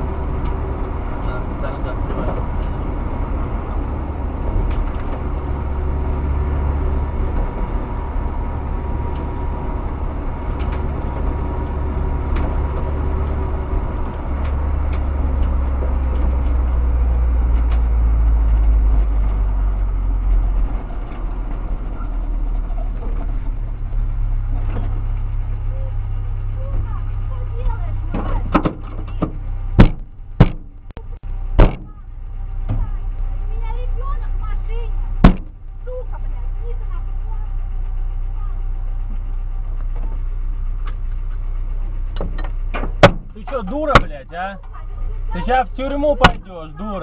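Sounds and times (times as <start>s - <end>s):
vehicle engine rumbling: 0.0s - 47.0s.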